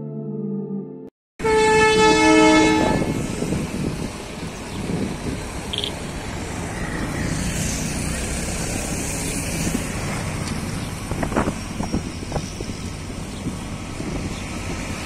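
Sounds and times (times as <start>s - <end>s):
diesel locomotive rumble: 1.4s - 15.0s.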